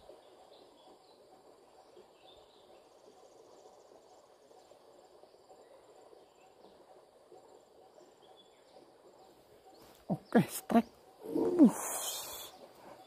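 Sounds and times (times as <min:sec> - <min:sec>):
faint bird chirps: 0:00.0 - 0:13.0
insects chirping: 0:00.0 - 0:13.0
soft steady hiss: 0:00.0 - 0:13.0.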